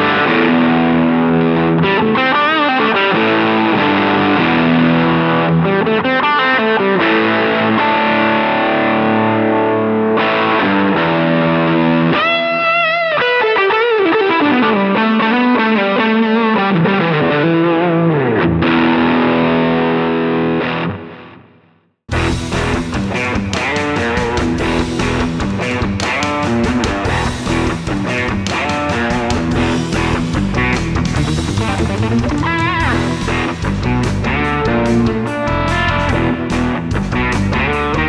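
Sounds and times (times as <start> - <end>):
distorted electric guitar: 0.0 - 38.0.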